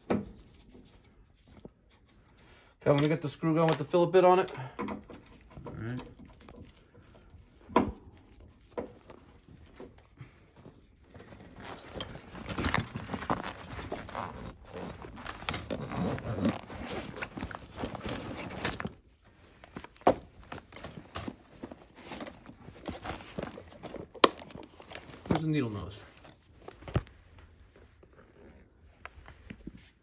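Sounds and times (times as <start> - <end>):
rustling of tool bag: 5.1 - 30.0.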